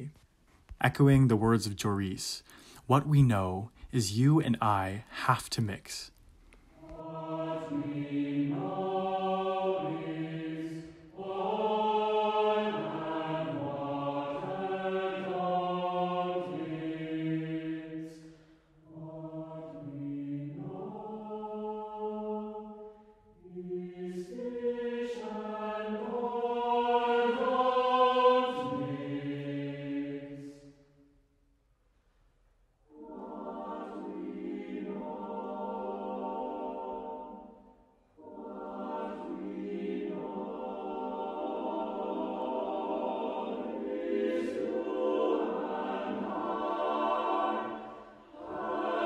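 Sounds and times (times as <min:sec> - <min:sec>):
mixed choir singing: 0:06.8 - 0:31.0, 0:32.9 - 0:49.0.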